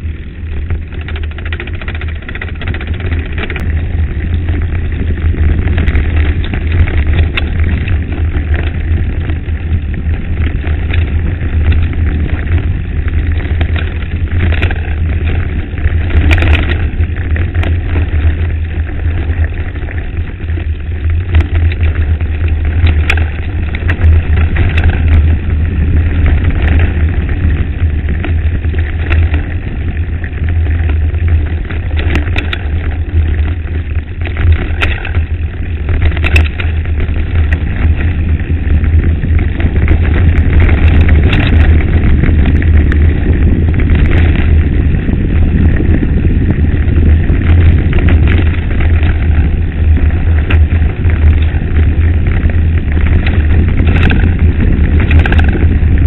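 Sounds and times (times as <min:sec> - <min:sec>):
bike rolling on gravel: 0:00.0 - 0:56.0
stones and bike rattling: 0:00.0 - 0:56.0
wind buffeting microphone: 0:00.0 - 0:56.0.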